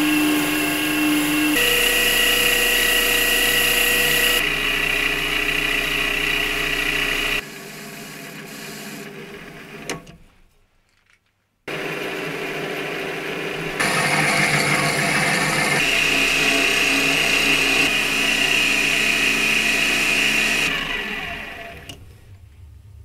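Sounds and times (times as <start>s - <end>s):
metal cutting noise: 0.0s - 9.2s, 11.7s - 22.0s
lathe motor and gear whine: 0.0s - 9.9s, 11.7s - 22.0s.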